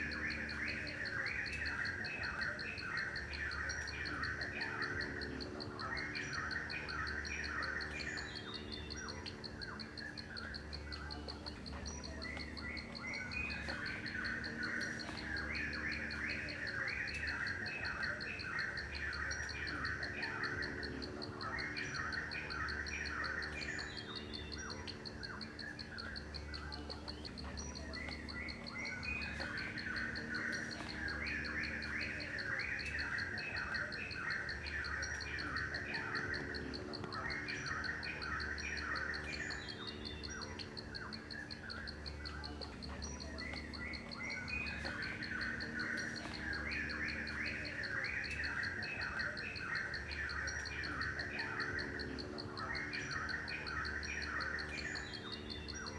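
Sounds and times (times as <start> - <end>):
birds chirping: 0.0 - 55.9
insect trilling: 0.0 - 55.9.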